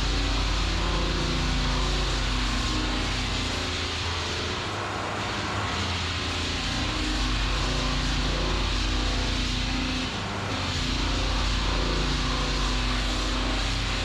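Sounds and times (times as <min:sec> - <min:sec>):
floor sanding machine motor hum: 0:00.0 - 0:14.0.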